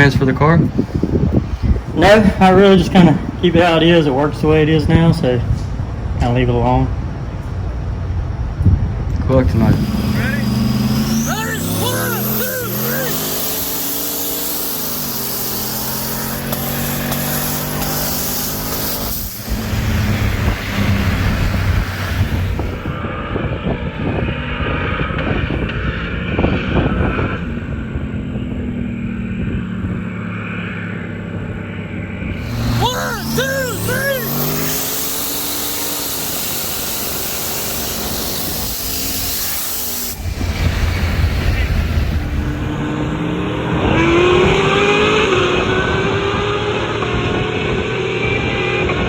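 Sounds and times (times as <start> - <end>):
race car engine running unevenly: 0.0 - 25.8, 26.8 - 47.4.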